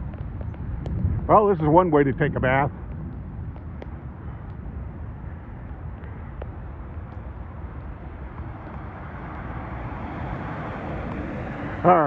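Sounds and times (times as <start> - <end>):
raindrops ticking nearby: 0.0 - 11.8.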